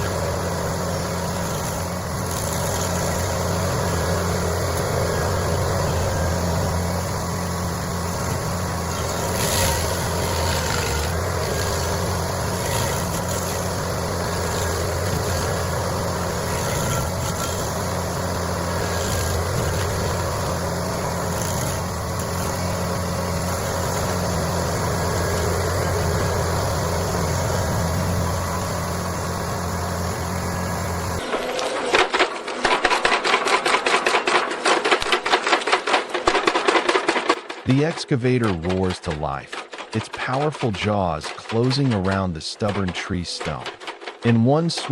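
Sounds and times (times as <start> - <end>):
heavy machine engine running: 0.0 - 44.9.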